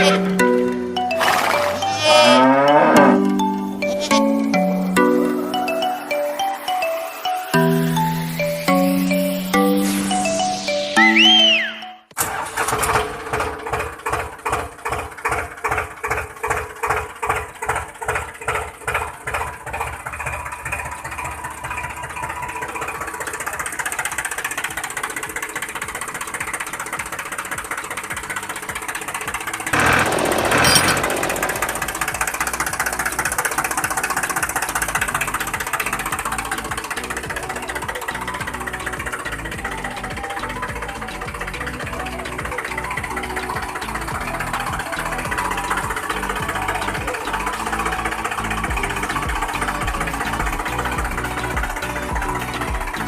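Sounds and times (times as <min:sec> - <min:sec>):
small engine running: 0:00.0 - 0:11.0, 0:12.2 - 0:53.0.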